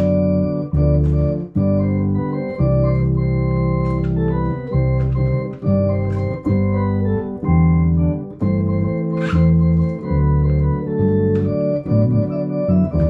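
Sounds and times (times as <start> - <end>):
electronic organ chords: 0.0 - 13.0
rhythm accompaniment ticks: 0.0 - 13.0.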